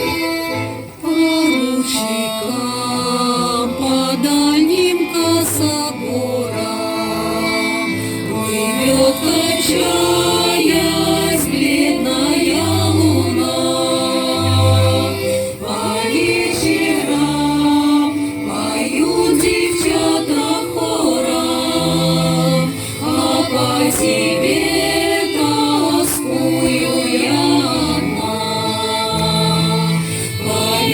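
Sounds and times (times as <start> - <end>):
vocal ensemble singing: 0.0 - 30.9.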